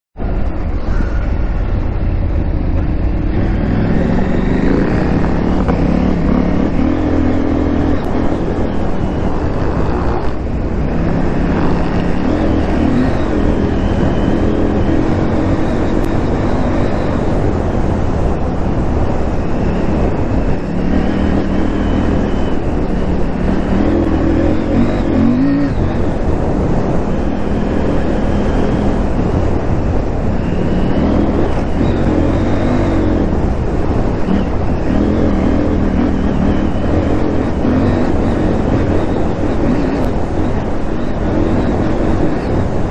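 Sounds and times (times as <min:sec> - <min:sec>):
motorcycle engine revving: 0:00.2 - 0:42.9
riding noise: 0:00.2 - 0:42.9.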